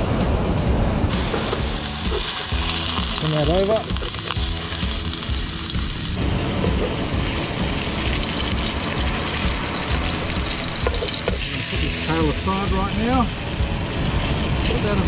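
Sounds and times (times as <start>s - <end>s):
fish sizzling in a frying pan: 1.1s - 15.0s.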